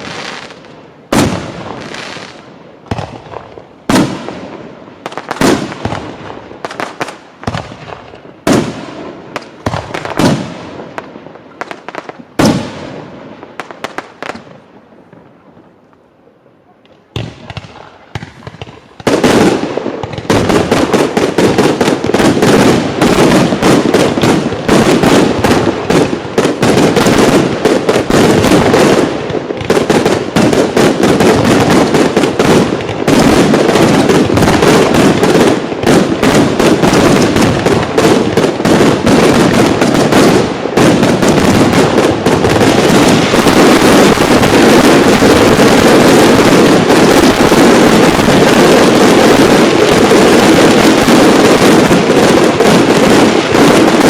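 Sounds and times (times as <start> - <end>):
fireworks bangs with echo: 0.0 - 15.7, 16.8 - 54.0
rapid fireworks barrage and crackle: 0.0 - 54.0.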